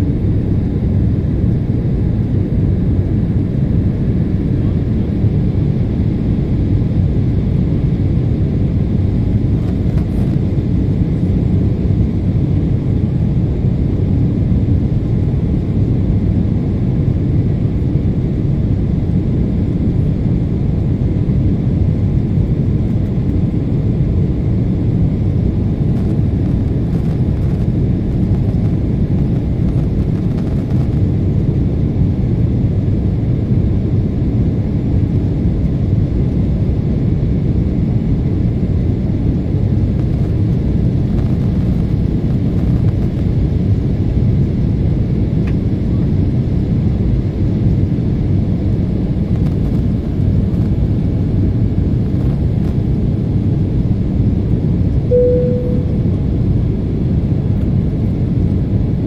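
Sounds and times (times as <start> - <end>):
jet cabin engine and airflow rush: 0.0 - 59.0.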